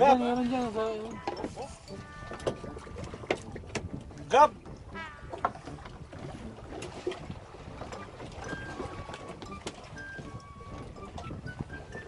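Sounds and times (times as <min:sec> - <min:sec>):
water against boat: 0:00.0 - 0:12.0
wind: 0:00.0 - 0:12.0.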